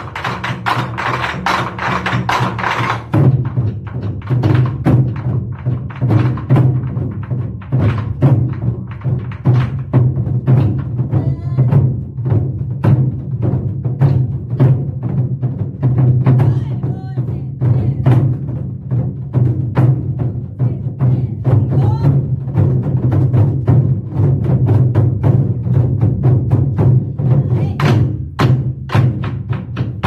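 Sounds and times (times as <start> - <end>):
deep drum boom: 0.0 - 30.0
drum ensemble hard strikes: 0.0 - 30.0.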